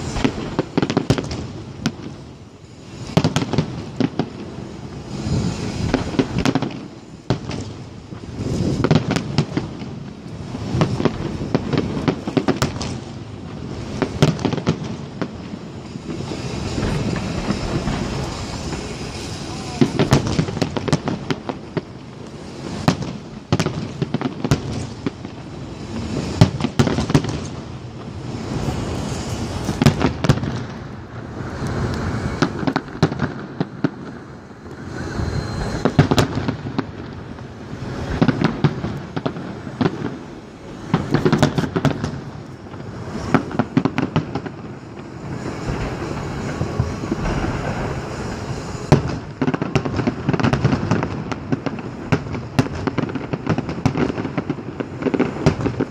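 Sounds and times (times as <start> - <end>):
firework bangs and crackles: 0.0 - 55.9.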